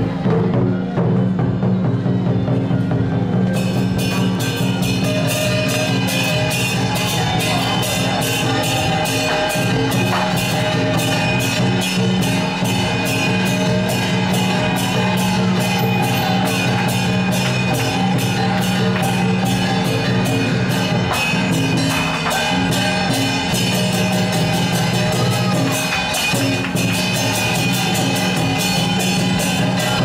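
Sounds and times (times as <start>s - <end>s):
cymbal and drum strokes: 0.0s - 30.0s
procession band music: 3.8s - 30.0s.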